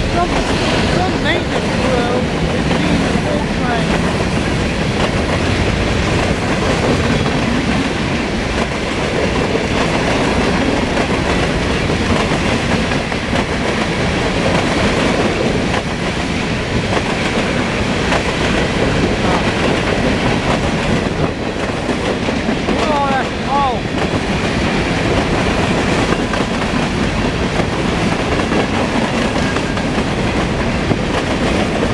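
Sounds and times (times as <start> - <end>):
steel wheels rumbling on rail: 0.0 - 31.9.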